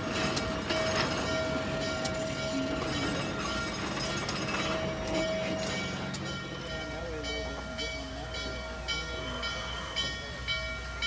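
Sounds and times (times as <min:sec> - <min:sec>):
steam locomotive rolling past: 0:00.0 - 0:11.0.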